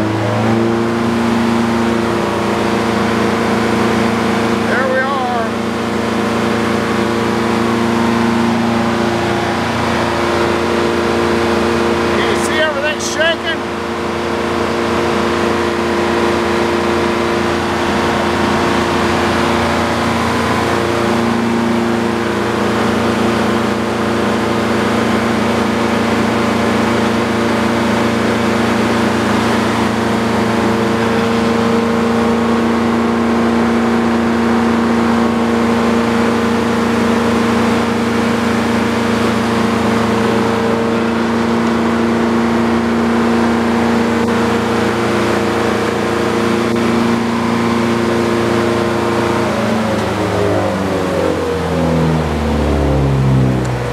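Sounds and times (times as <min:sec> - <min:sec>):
engine humming steadily: 0:00.0 - 0:53.9.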